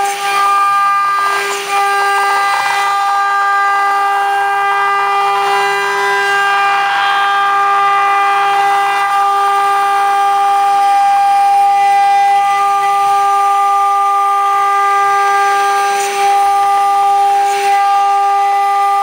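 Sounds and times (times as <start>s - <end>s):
router spindle whine: 0.0s - 19.0s.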